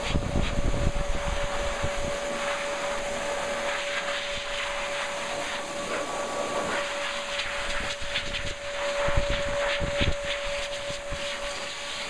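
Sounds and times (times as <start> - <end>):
dog blow dryer running: 0.0 - 12.0.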